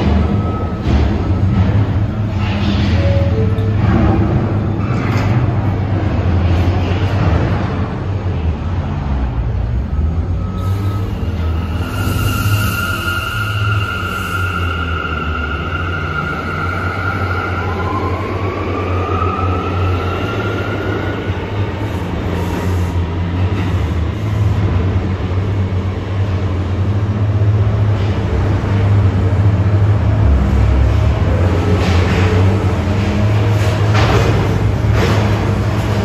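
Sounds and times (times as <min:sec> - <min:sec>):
subway train rumble: 0:00.0 - 0:36.0.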